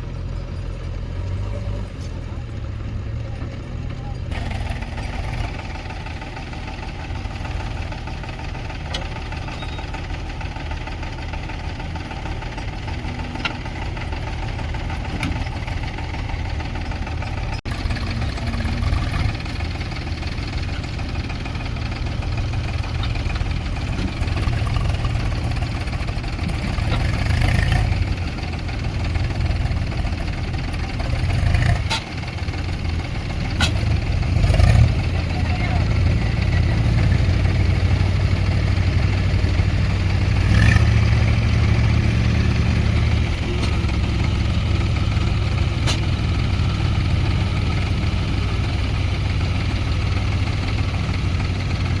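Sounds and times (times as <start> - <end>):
diesel engines rumbling: 0.0 - 52.0.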